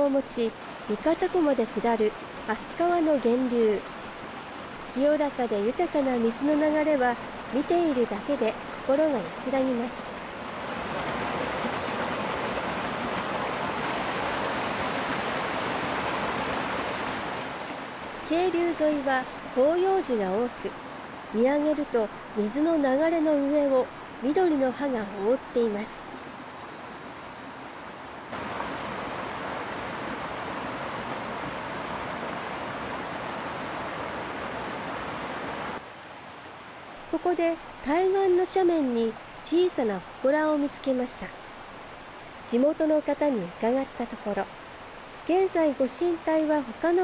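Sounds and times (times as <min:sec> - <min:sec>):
stream rushing over cascades: 0:00.0 - 0:47.0.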